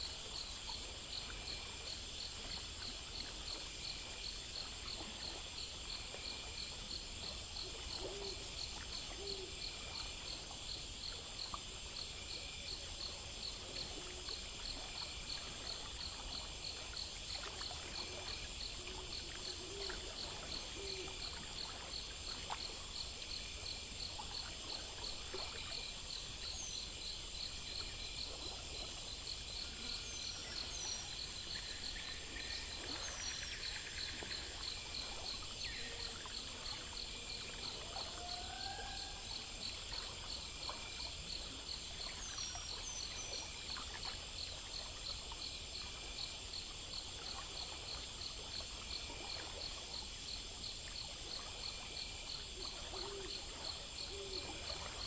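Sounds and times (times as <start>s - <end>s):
insect chorus trilling: 0.0s - 55.0s
stream water flowing: 0.0s - 55.0s.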